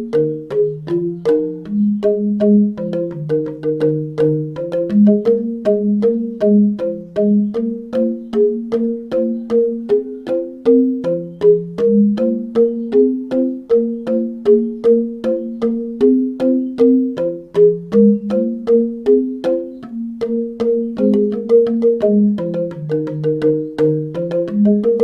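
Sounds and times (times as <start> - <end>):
held low keyboard notes: 0.0 - 25.0
keyboard melody: 0.0 - 25.0.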